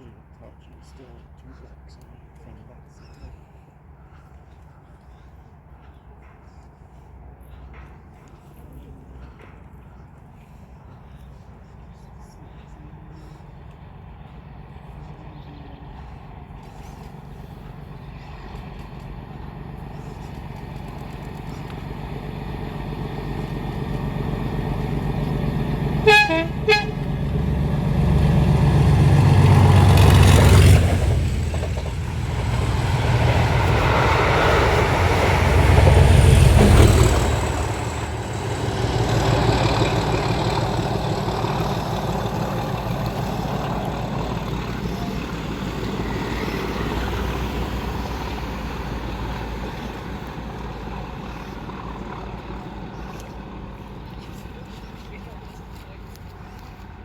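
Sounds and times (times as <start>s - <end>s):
diesel train passing: 3.6s - 57.0s.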